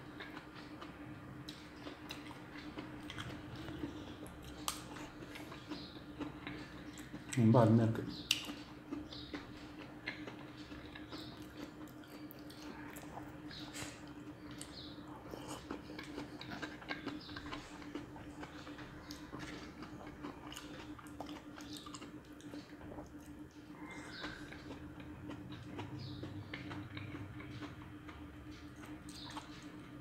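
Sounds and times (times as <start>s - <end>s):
faint low hum: 0.0s - 30.0s
person chewing fruit: 0.0s - 30.0s.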